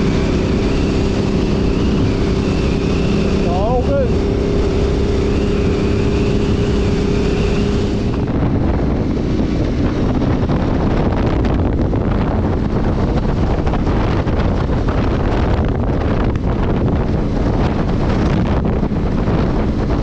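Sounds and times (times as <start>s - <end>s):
motorcycle engine drone: 0.0s - 20.0s
road noise: 0.0s - 20.0s
wind buffeting microphone: 0.0s - 20.0s.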